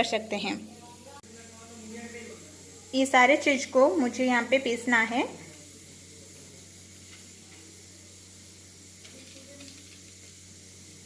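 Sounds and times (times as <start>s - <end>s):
even hiss: 0.0s - 11.0s
low electrical hum: 0.0s - 11.0s.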